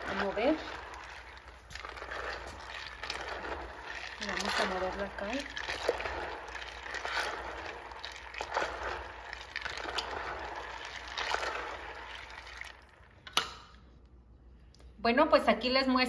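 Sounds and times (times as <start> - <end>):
spatula stirring corn in water: 0.0 - 13.6.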